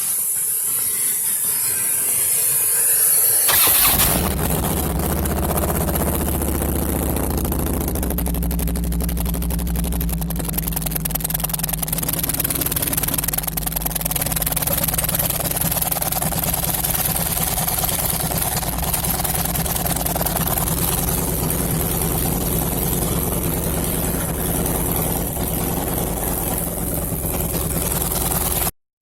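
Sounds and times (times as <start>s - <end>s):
motorcycle engine idling: 3.2s - 28.7s.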